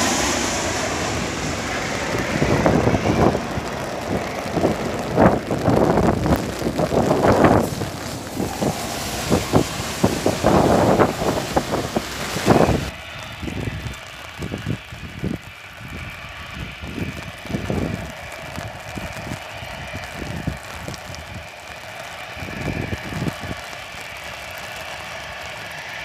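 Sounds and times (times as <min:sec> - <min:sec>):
wind buffeting microphone: 0:00.0 - 0:21.5
distant jet engine noise: 0:00.0 - 0:26.0.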